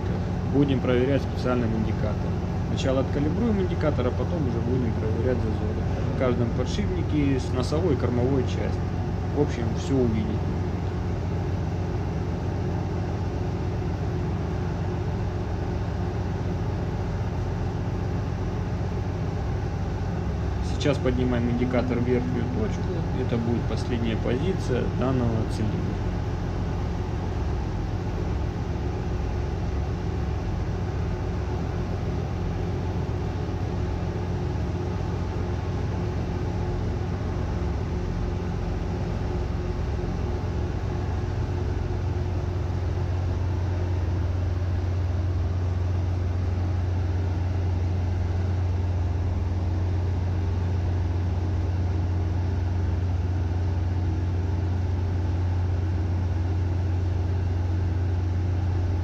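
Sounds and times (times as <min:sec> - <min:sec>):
engine room machinery droning: 0:00.0 - 0:59.0.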